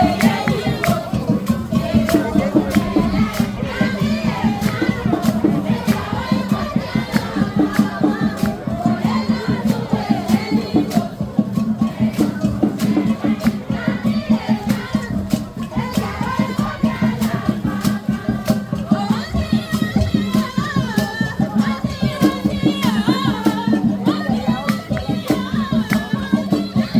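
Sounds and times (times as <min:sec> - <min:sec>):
fast steady percussion: 0:00.0 - 0:26.9
voices singing: 0:00.0 - 0:26.9.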